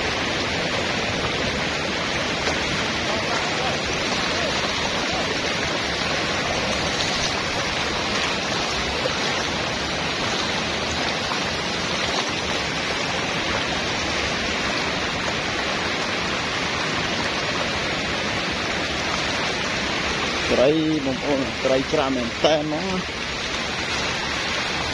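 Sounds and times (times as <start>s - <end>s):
water rushing: 0.0s - 24.9s.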